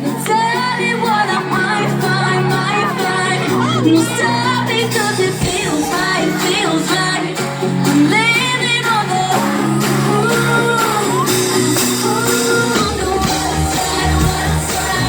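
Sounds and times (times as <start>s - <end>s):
guitar and band backing: 0.0s - 15.0s
woman singing a pop ballad: 0.0s - 15.0s.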